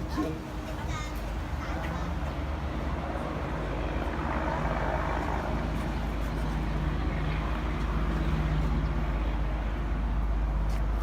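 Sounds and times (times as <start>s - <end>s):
car engine drone and road noise: 0.0s - 11.0s.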